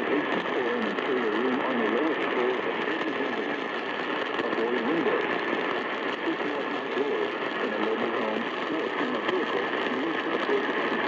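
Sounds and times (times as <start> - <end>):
radio static: 0.0 - 11.0
steady whine: 0.0 - 11.0
voice talking on radio: 0.0 - 11.0.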